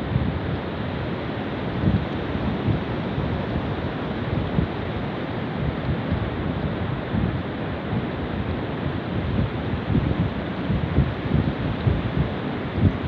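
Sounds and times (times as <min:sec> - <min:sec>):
wind buffeting microphone: 0:01.6 - 0:13.0.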